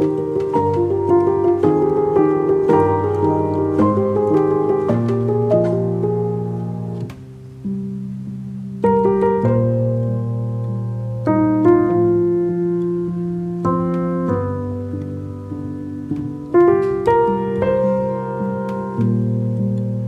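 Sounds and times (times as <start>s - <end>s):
slow gentle piano chords: 0.0s - 20.0s.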